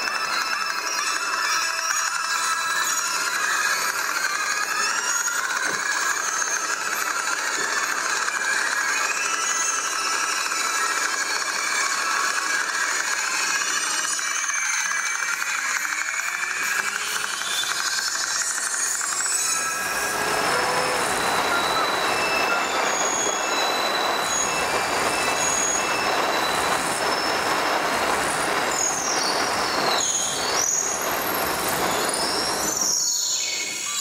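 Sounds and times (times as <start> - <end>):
short high squealing tones: 0.0 - 34.0.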